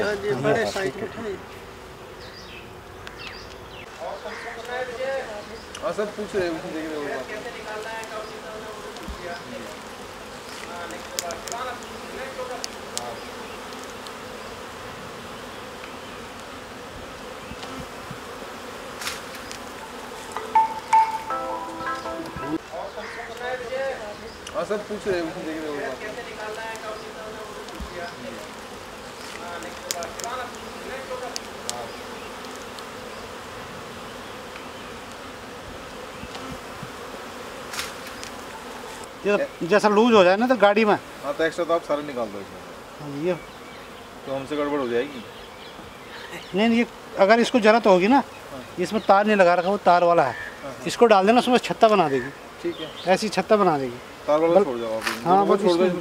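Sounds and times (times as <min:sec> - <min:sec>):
honey bees buzzing: 0:00.0 - 0:56.0.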